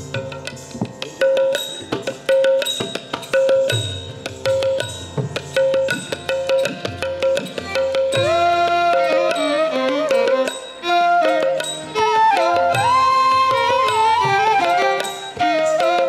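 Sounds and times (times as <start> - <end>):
small cymbals: 0.0 - 16.0.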